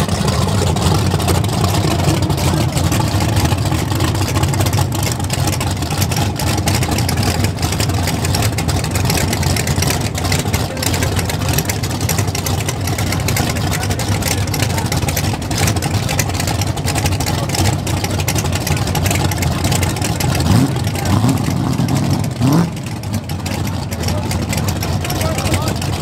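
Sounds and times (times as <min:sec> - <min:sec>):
race car engines idling: 0:00.0 - 0:26.0.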